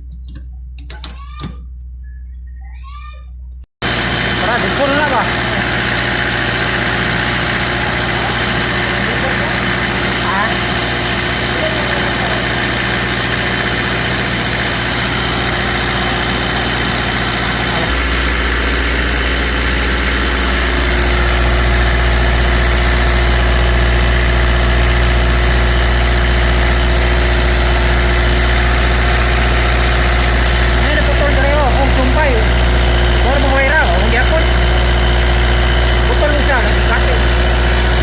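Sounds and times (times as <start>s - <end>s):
diesel generator running: 3.8s - 38.0s.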